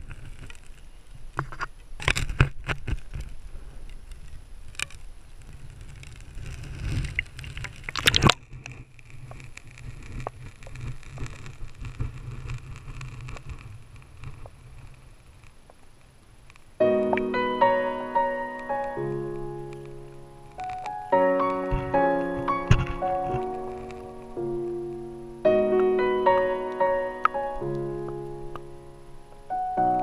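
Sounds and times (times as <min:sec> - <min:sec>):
faint underwater ticks and clicks: 0:00.0 - 0:30.0.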